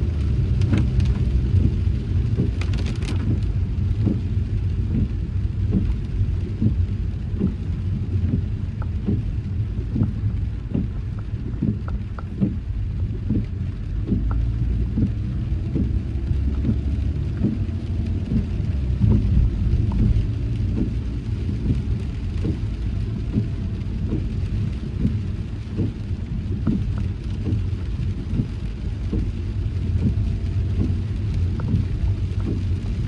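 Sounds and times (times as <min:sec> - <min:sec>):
car road rumble: 0:00.0 - 0:33.0
raindrops tapping on car: 0:00.0 - 0:33.0.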